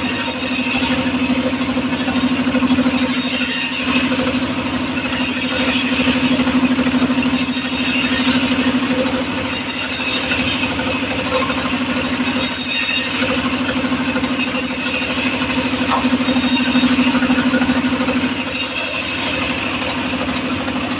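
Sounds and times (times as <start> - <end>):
engine-driven circular saw running: 0.0 - 20.9.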